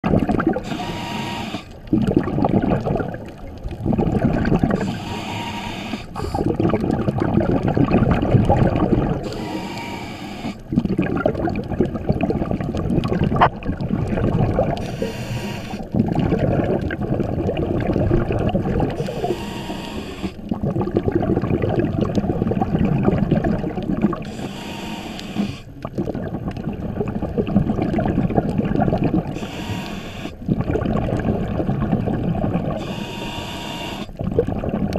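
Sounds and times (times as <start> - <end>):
muffled underwater rumble: 0.0 - 34.9
rush of exhaled air bubbles: 0.0 - 34.9.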